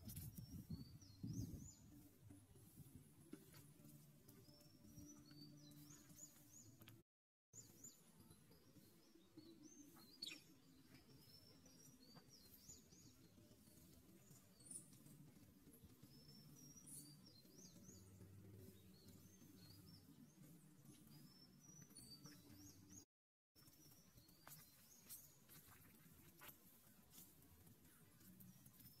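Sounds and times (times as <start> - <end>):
small birds chirping: 0.0 - 7.0, 7.6 - 29.0.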